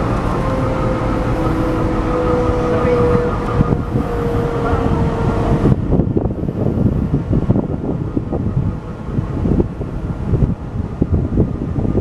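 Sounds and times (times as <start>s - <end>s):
winch motor whining: 0.0s - 12.0s
wind buffeting microphone: 0.0s - 12.0s.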